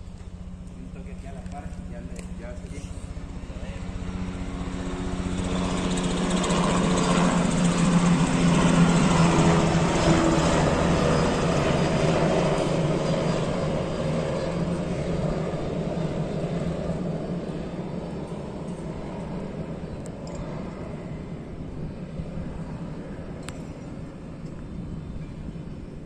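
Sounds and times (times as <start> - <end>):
helicopter flying past: 0.0 - 26.0.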